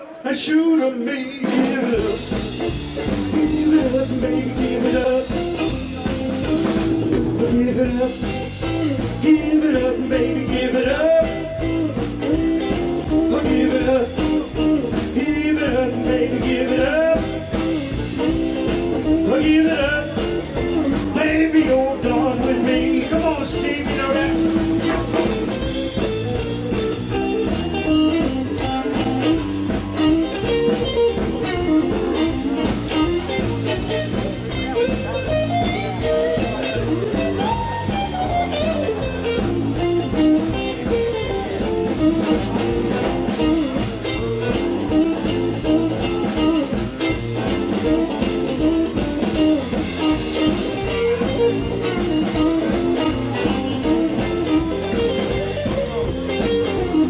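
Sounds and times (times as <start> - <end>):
bass guitar: 0.0 - 57.0
electric guitar lead: 0.0 - 57.0
steady drum beat: 1.2 - 57.0.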